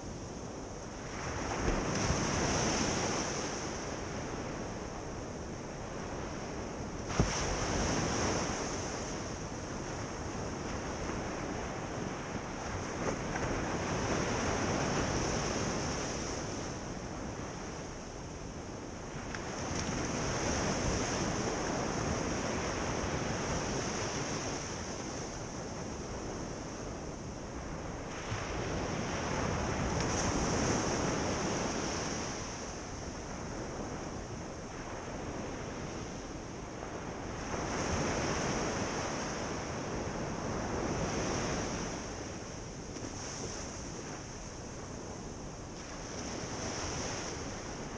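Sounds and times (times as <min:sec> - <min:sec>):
ocean surf breaking on a beach: 0:00.0 - 0:47.9.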